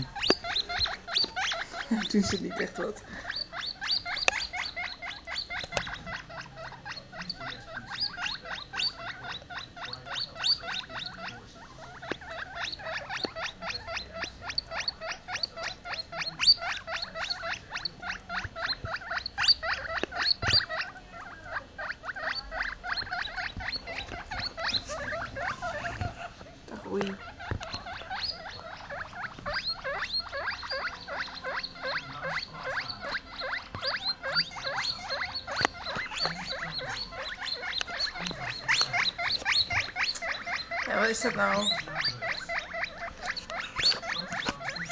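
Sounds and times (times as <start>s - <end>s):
guinea pigs squealing: 0.0s - 44.9s.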